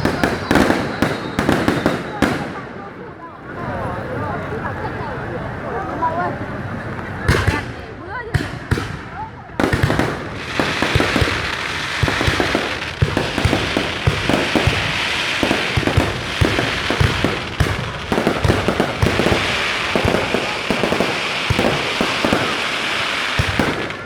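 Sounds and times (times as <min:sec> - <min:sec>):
fireworks bangs and crackling pops: 0:00.0 - 0:03.1, 0:06.9 - 0:24.0.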